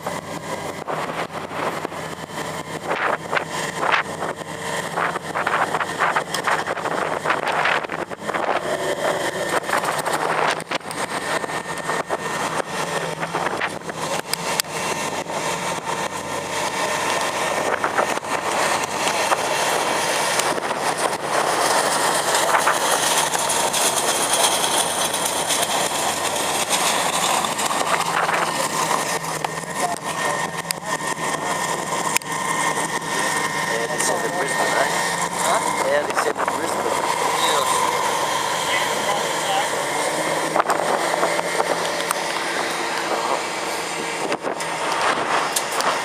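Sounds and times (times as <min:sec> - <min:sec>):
car engine running: 0:00.0 - 0:46.0
heavy surrounding noise: 0:00.0 - 0:46.0.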